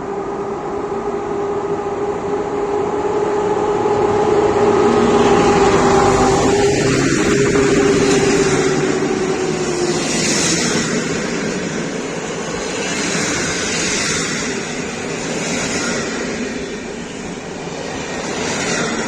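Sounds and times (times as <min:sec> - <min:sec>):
train passing close: 0:00.0 - 0:19.0.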